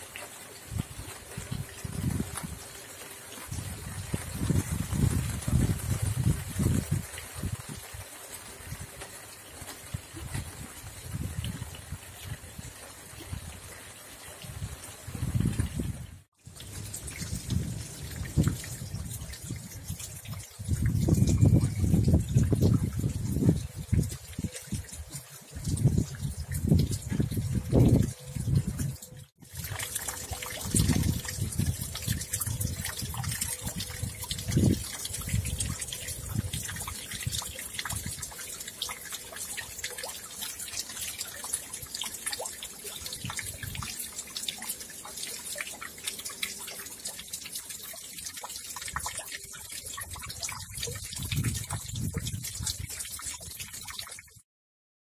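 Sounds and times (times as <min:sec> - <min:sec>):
rain pattering: 0:00.0 - 0:54.4.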